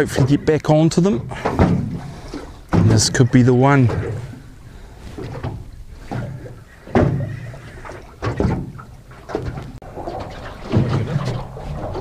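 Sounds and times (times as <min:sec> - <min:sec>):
low rumble of sea: 0:00.0 - 0:12.0.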